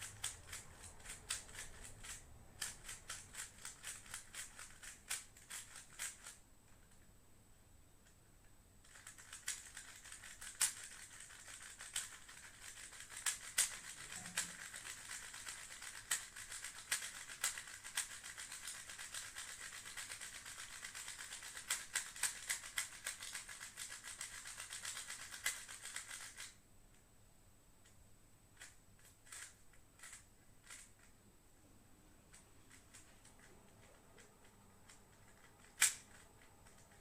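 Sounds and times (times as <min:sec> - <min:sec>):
puzzle cube clicking: 0:00.0 - 0:06.9, 0:08.8 - 0:26.6, 0:28.6 - 0:31.1, 0:32.7 - 0:37.0.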